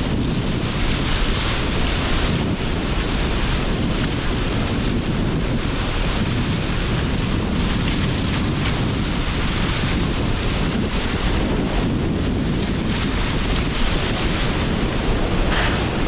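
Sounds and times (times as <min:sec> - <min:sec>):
sea surf rumble: 0:00.0 - 0:16.0
strong wind blowing: 0:00.0 - 0:16.0
wind buffeting microphone: 0:00.0 - 0:16.0.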